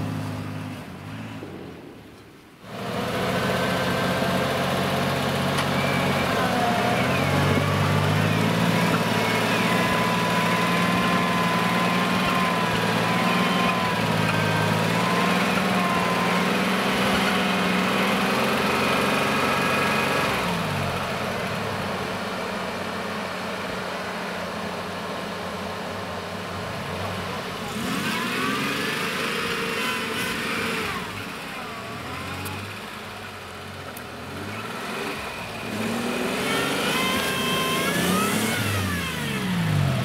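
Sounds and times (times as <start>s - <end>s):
suv engines running hard: 0.0s - 40.0s.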